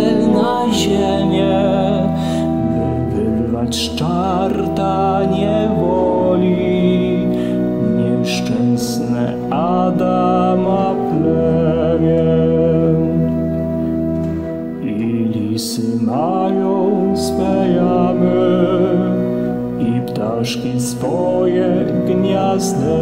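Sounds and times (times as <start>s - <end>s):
organ chords: 0.0s - 23.0s
person singing: 0.0s - 23.0s.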